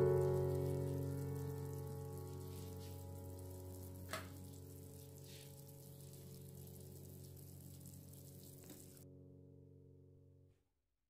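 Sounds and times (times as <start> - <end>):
broth bubbling in a pan: 0.0 - 9.0
soft background music: 0.0 - 10.5.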